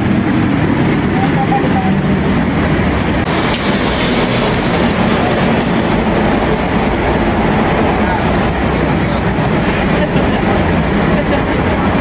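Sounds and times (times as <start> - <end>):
loud steady mechanical noise: 0.0 - 12.0.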